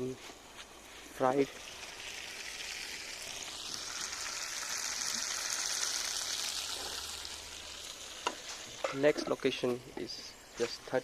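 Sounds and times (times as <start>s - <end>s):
chicken sizzling in a pan: 0.8s - 11.0s.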